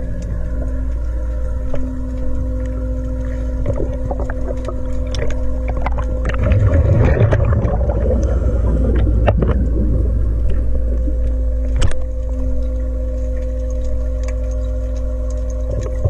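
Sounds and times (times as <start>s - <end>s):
scuba exhaust bubbles: 0.0s - 16.0s
underwater mechanical hum: 0.0s - 16.0s.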